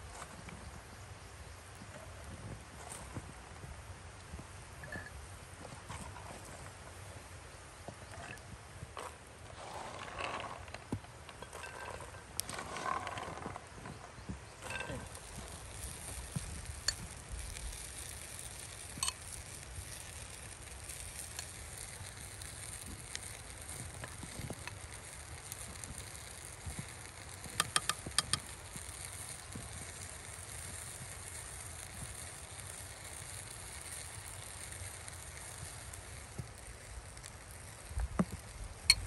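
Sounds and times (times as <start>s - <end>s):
steady hiss: 0.0s - 39.0s.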